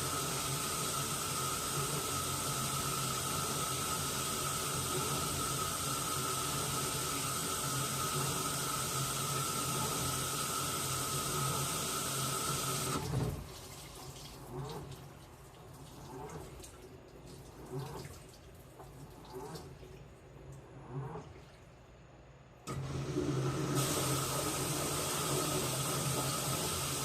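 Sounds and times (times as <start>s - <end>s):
water rushing into washing machine: 0.0s - 21.8s, 22.6s - 27.0s.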